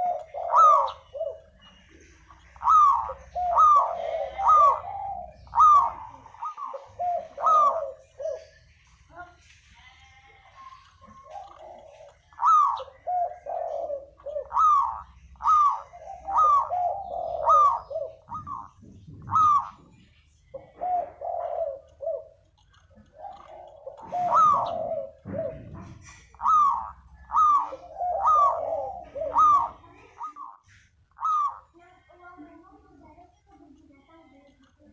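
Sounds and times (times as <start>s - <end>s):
dove cooing: 0.0s - 9.4s, 10.2s - 34.9s.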